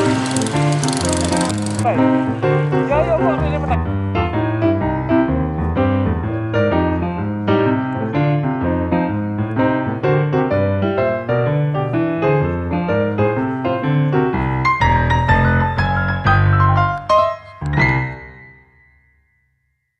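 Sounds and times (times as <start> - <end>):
piano music: 0.0 - 19.5.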